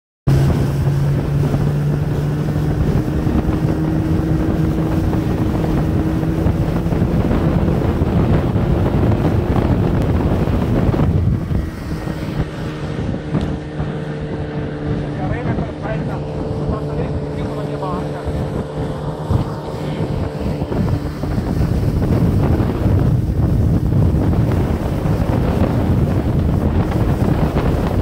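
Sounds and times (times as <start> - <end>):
outboard motor running: 0.3 - 28.0
water rushing: 0.3 - 28.0
wind buffeting microphone: 0.3 - 28.0.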